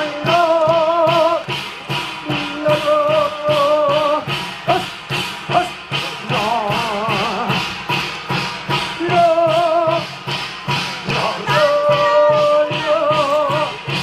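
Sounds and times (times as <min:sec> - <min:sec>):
steady percussion beat: 0:00.0 - 0:14.0.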